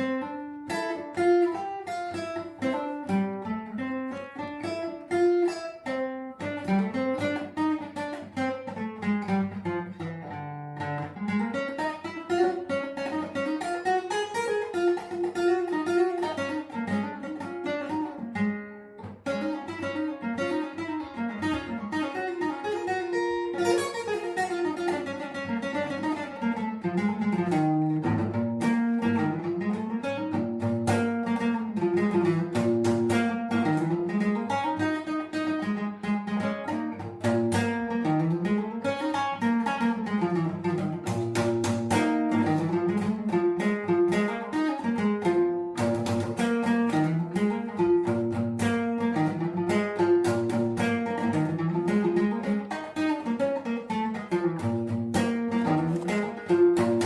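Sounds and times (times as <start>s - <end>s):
acoustic guitar plucking: 0.0s - 57.0s.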